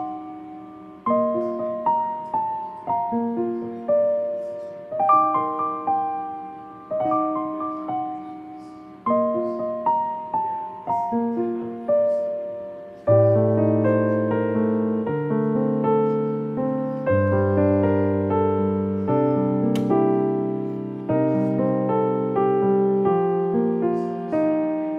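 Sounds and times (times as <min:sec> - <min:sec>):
gentle solo piano melody: 0:00.0 - 0:24.9.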